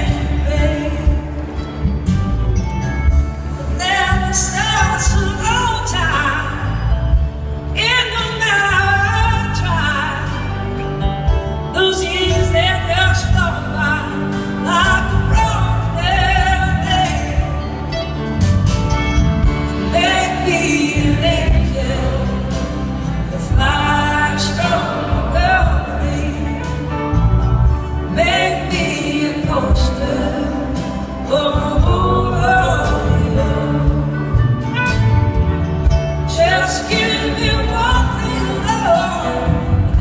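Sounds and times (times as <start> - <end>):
live band playing blues-rock: 0.0 - 40.0.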